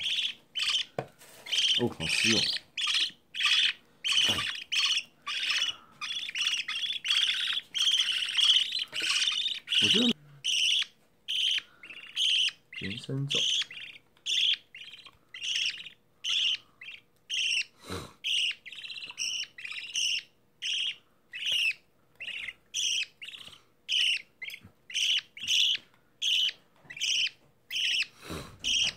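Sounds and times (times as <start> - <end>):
bird chick cheeping: 0.0 - 28.9.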